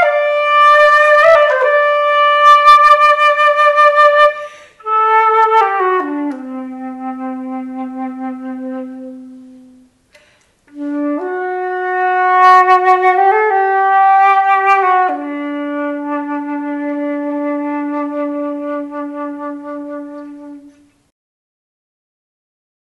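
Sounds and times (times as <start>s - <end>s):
woodwind-like instrument long notes: 0.0s - 10.0s, 10.7s - 21.0s.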